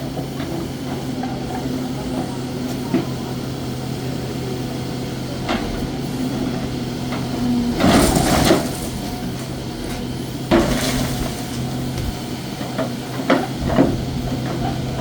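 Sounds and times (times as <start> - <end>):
machine engine running: 0.2 - 15.0.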